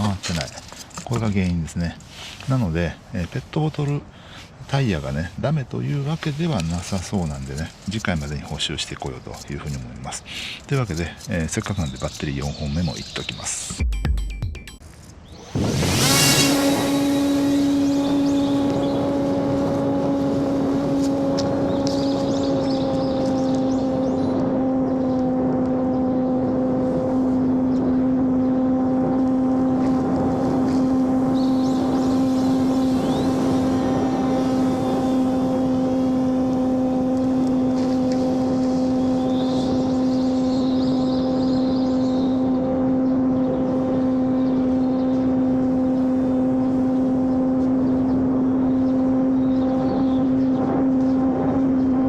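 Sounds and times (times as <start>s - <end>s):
model airplane motor and propeller: 0.0s - 13.6s, 14.8s - 52.0s.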